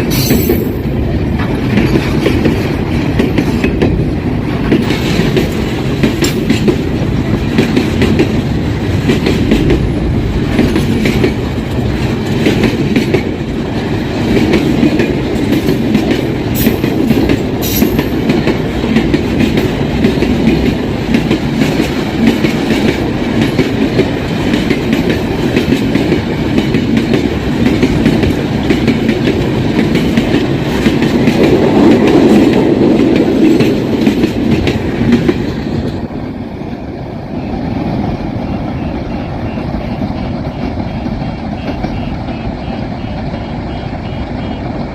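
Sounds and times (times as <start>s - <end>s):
train wheels clacking over rail joints: 0.0s - 36.2s.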